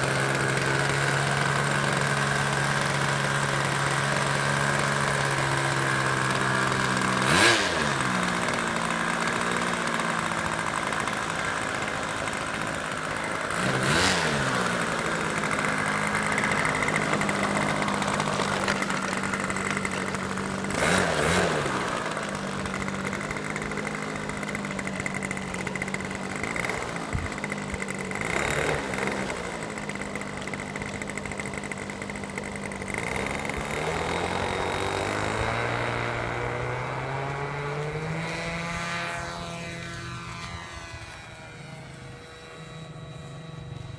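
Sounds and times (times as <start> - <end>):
small airplane engine running: 0.0 - 43.9.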